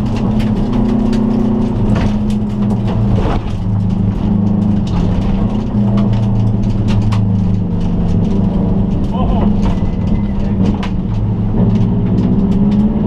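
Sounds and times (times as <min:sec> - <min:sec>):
car engine revving: 0:00.0 - 0:13.0
gravel ticking on car underside: 0:00.0 - 0:13.0.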